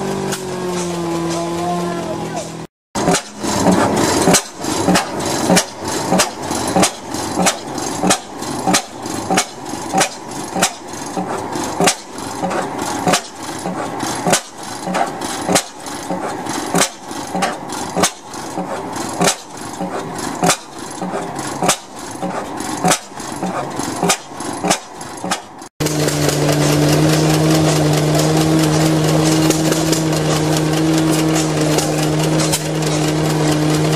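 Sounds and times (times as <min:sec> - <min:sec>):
engine exhaust cracks: 0:03.0 - 0:33.9.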